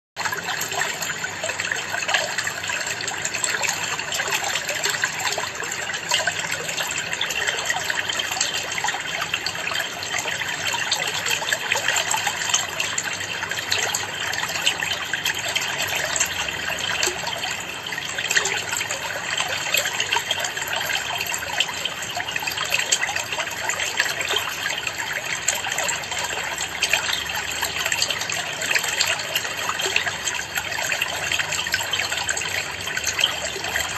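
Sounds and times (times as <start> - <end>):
water trickling and splashing: 0.2 - 33.9.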